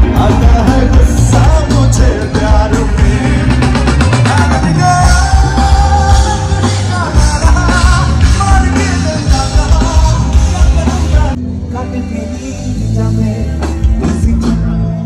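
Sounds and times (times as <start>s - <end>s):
song with singing over bass beat: 0.0s - 15.0s.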